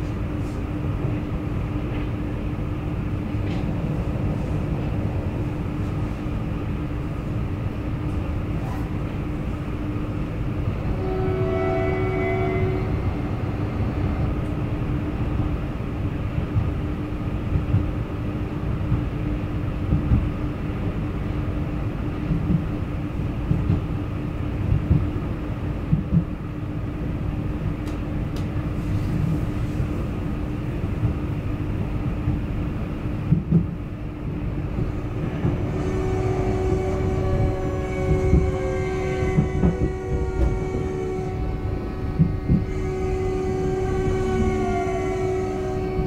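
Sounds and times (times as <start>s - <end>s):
constant hum: 0.0s - 46.0s
train whine: 0.0s - 46.0s
wheels rumbling on track: 0.0s - 46.0s.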